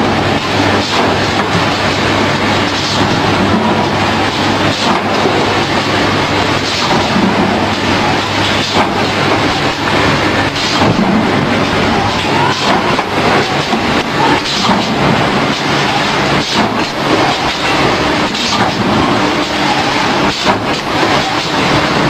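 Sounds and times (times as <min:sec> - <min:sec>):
machine rushing noise: 0:00.0 - 0:22.0
printing machine hum and clatter: 0:00.0 - 0:22.0.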